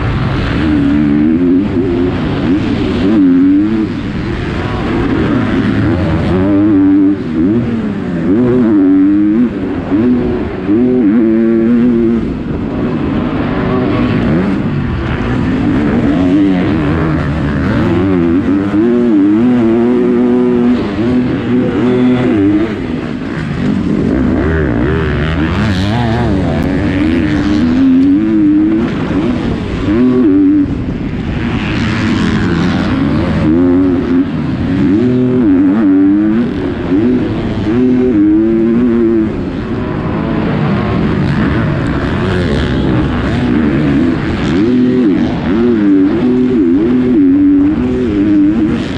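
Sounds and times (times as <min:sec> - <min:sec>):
motocross bike engine revving: 0:00.0 - 0:48.9
rushing noise: 0:00.0 - 0:48.9.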